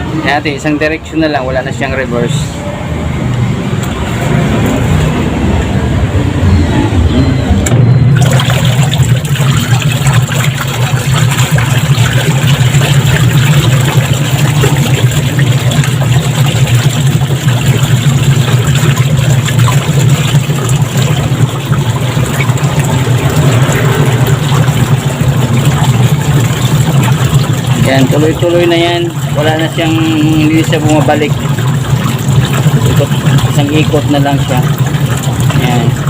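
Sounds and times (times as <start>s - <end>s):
washing machine motor humming: 0.0s - 36.0s.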